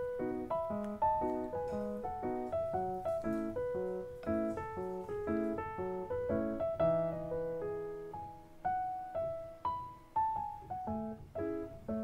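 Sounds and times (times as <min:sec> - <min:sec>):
gentle solo piano: 0:00.0 - 0:12.0.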